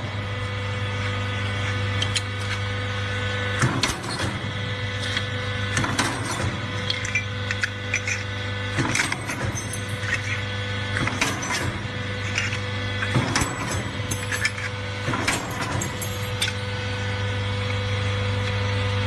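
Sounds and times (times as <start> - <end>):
hydraulic pump motor hum: 0.0 - 19.0.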